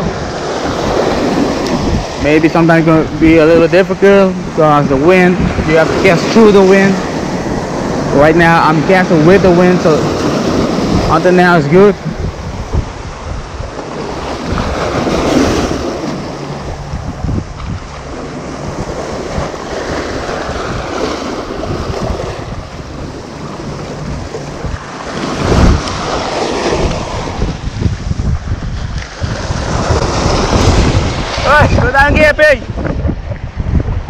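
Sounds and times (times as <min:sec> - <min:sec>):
surf washing over rocks: 0:00.0 - 0:34.0
wind buffeting microphone: 0:00.0 - 0:34.0.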